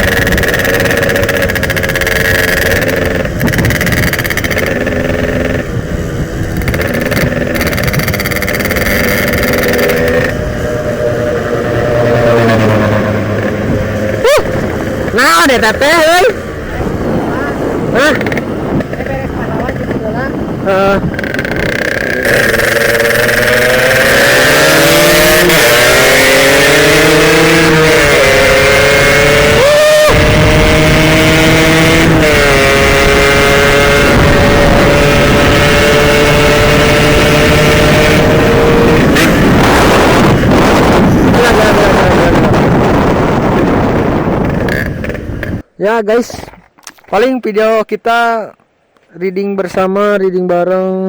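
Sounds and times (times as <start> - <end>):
two-stroke motorcycle engine revving: 0.0 - 45.7.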